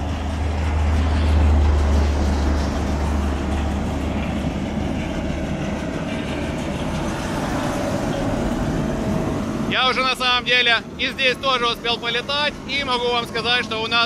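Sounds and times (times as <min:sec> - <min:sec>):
diesel engines of paving machinery: 0:00.0 - 0:14.0.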